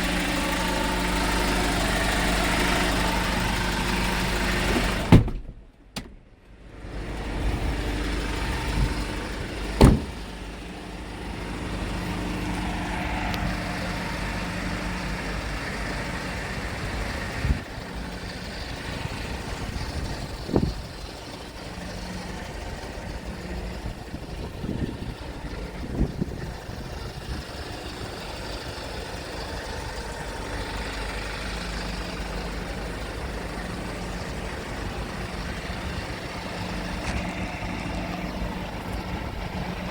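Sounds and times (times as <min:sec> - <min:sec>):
diesel truck engine idling: 0:00.0 - 0:05.3, 0:06.3 - 0:39.9.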